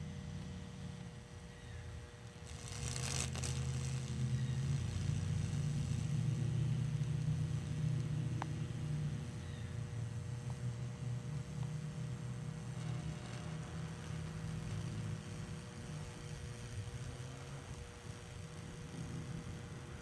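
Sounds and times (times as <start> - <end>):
hissing crackling noise: 0.0 - 20.0
transformer humming loudly: 0.0 - 20.0.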